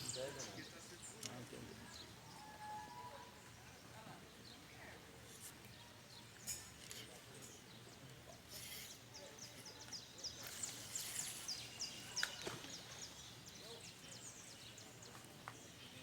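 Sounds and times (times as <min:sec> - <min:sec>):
birds chirping: 0:00.0 - 0:04.9, 0:05.6 - 0:16.0
steady outdoor hiss: 0:00.0 - 0:16.0.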